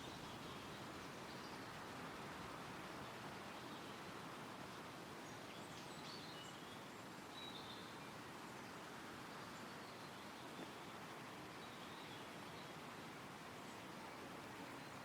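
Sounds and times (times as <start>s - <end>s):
wind rustling trees: 0.0s - 15.0s.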